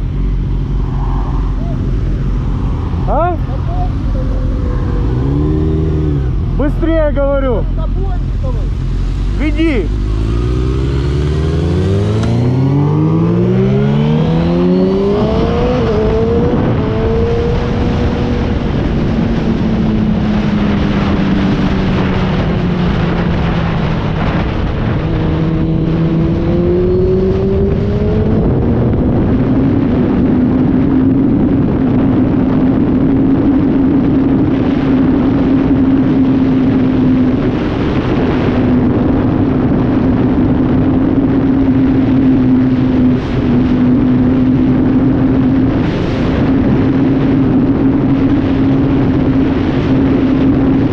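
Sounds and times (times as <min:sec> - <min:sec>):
heavy wind rush: 0:00.0 - 0:50.9
motorcycle engine revving: 0:00.0 - 0:50.9.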